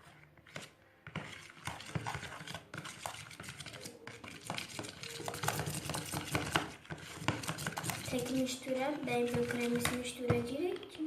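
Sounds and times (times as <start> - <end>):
spoon scraping a pot: 0.0 - 10.1
spoon stirring thick slime: 0.0 - 11.0.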